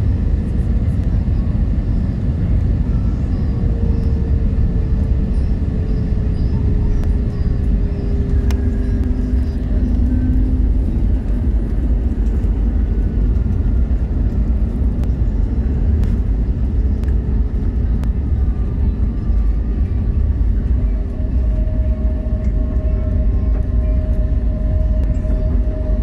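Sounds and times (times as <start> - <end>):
airflow and engine rumble: 0.0 - 26.0.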